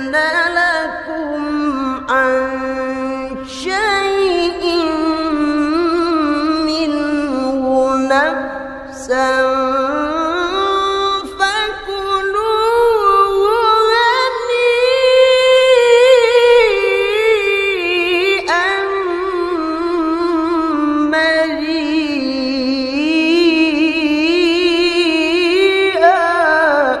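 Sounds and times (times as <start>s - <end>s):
man chanting unaccompanied: 0.0s - 27.0s.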